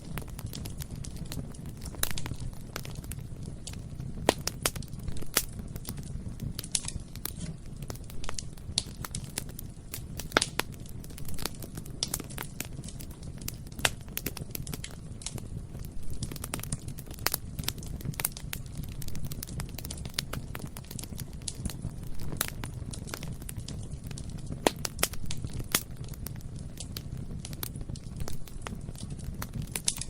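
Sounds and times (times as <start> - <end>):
burning wood crackling: 0.0 - 30.0
low rumble of flames: 0.0 - 30.0.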